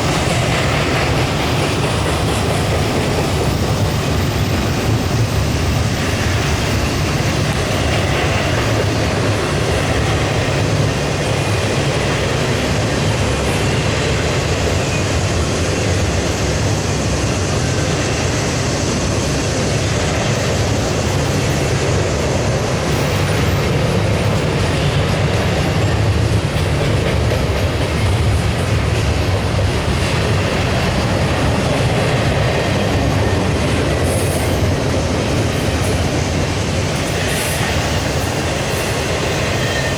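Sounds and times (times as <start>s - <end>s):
train cars rolling past: 0.0s - 39.9s.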